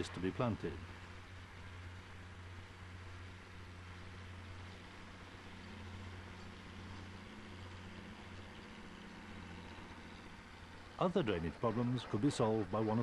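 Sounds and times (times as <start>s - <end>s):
film hiss: 0.0s - 13.0s
tractor diesel engine running: 0.0s - 13.0s.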